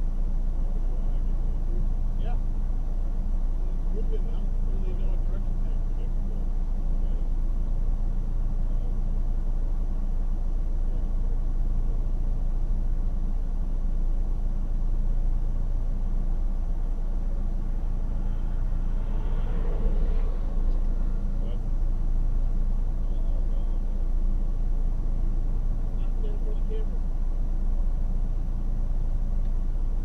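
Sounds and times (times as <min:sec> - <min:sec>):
car engine hum: 0:00.0 - 0:30.0
road noise: 0:00.0 - 0:30.0.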